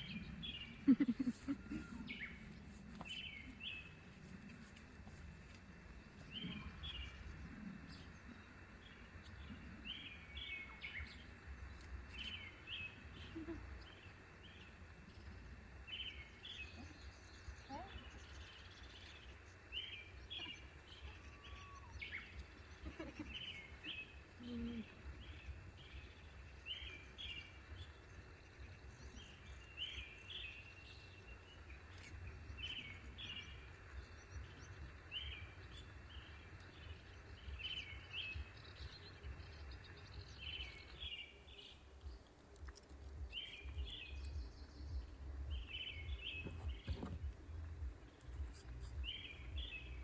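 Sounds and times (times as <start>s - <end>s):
low rumble of wind: 0.0s - 50.0s.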